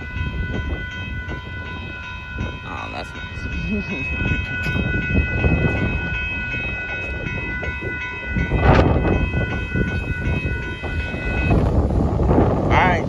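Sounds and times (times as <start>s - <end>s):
crossing warning bell ringing: 0.0s - 13.0s
passenger train rumbling past: 0.0s - 13.0s.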